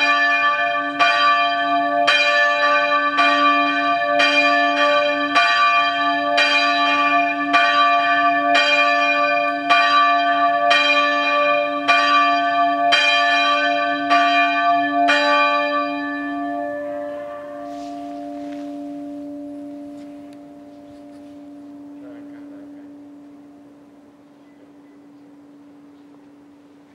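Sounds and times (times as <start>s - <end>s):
church bell ringing: 0.0s - 26.9s.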